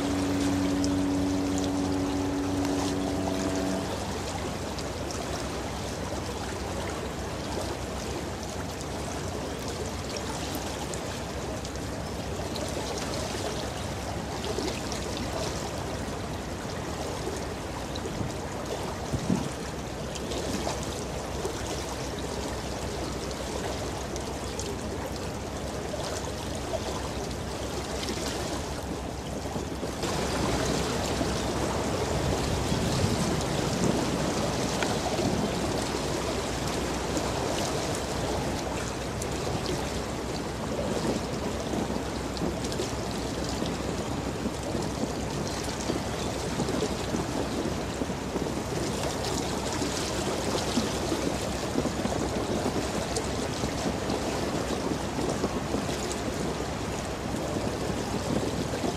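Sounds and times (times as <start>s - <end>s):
ship bow wave splashing: 0.0s - 58.9s.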